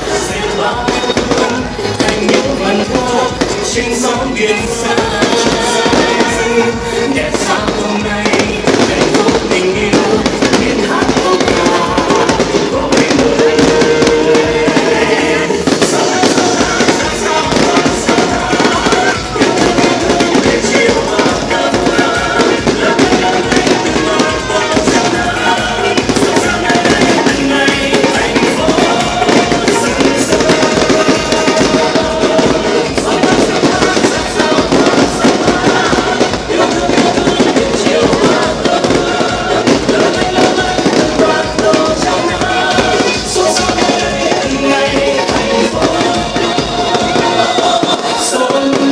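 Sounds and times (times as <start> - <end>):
fireworks cracks and bangs: 0.0 - 48.9
music: 0.0 - 48.9.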